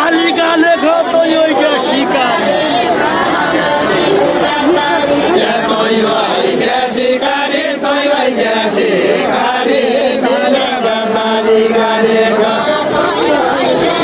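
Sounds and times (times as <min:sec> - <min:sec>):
group singing folk song: 0:00.0 - 0:14.0.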